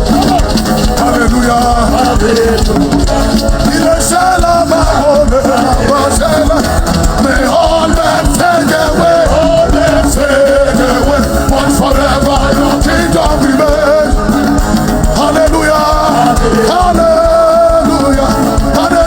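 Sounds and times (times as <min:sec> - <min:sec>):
band with drums and keyboards: 0:00.0 - 0:19.0
congregation singing: 0:00.0 - 0:19.0.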